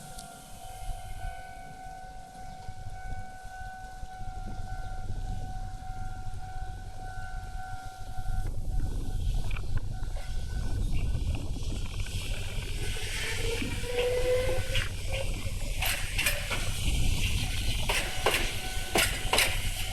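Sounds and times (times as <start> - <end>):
electric train rumble: 0.0 - 19.9.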